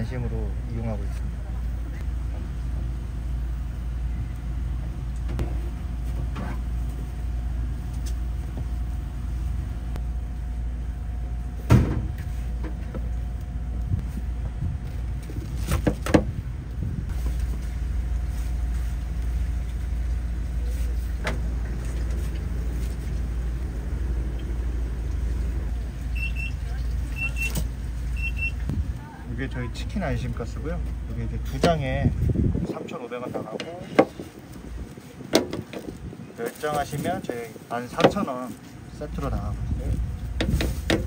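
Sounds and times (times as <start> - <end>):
thin steady hum: 0.0 - 36.4
machinery motor rumbling: 0.0 - 41.0.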